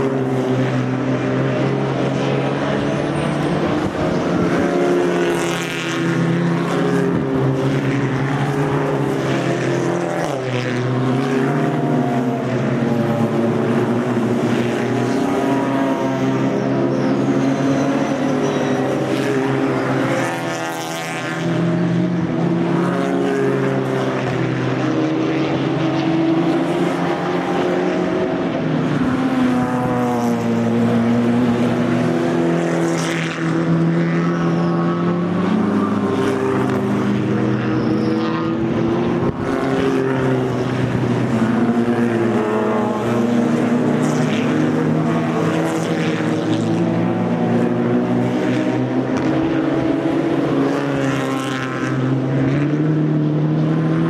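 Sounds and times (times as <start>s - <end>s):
race cars passing: 0.0s - 54.0s.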